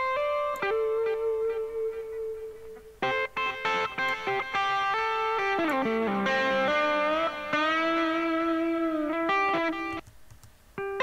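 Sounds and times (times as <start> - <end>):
electric lead guitar solo: 0.0 - 10.0.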